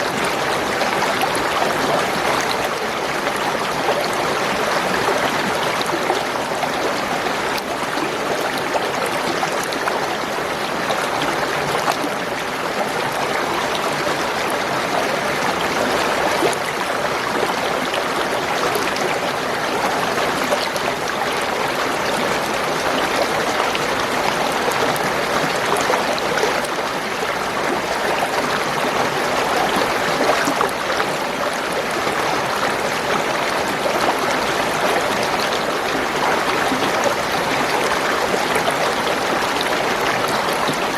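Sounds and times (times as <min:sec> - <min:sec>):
water gurgling over stones: 0:00.0 - 0:40.9.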